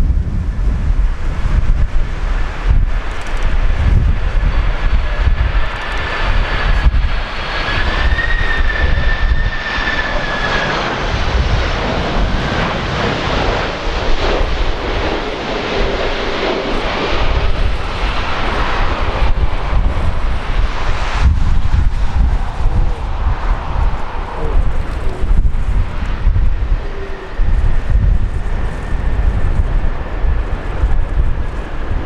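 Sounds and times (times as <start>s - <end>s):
high engine whine: 0.0s - 32.0s
jet airliner passing overhead: 0.0s - 32.0s
wind buffeting microphone: 0.0s - 32.0s.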